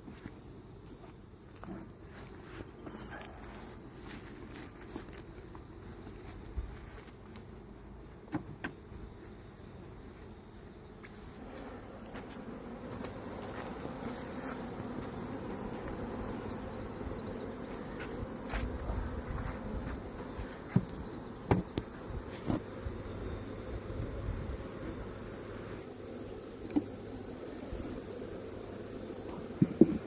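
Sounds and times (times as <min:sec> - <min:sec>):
honeybee swarm buzzing: 0:00.4 - 0:30.0.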